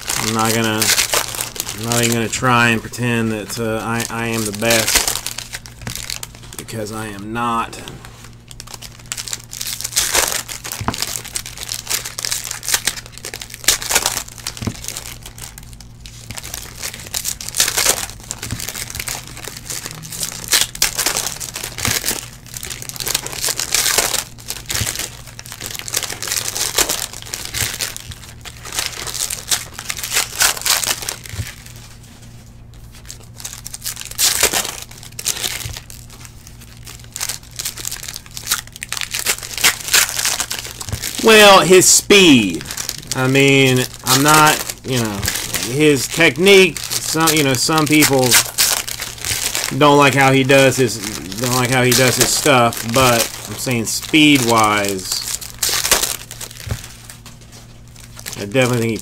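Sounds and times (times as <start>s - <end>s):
foil wrappers crinkling and tearing: 0.0s - 59.0s.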